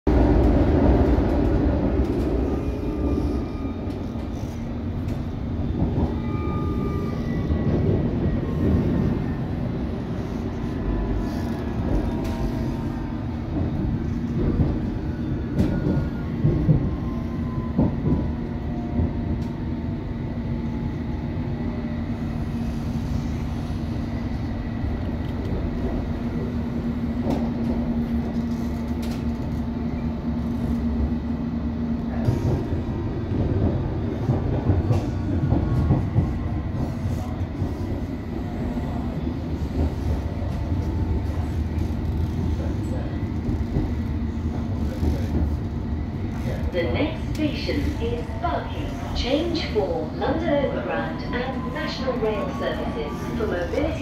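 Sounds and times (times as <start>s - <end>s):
train wheels rumbling on rails: 0.1s - 54.0s.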